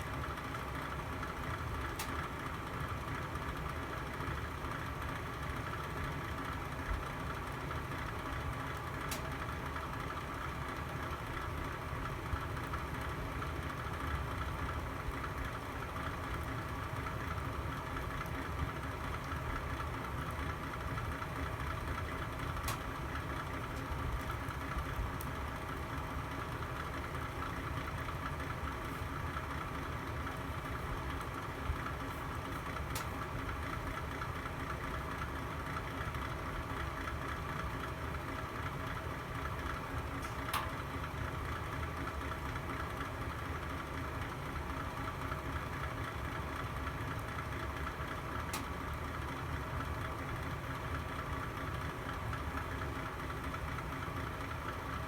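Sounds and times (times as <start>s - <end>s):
wood fire rumbling and hissing: 0.0s - 55.0s.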